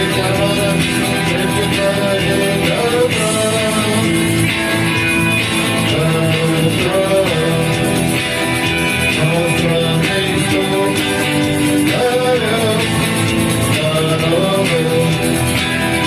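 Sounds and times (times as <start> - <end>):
song with singing and guitar: 0.0 - 16.0.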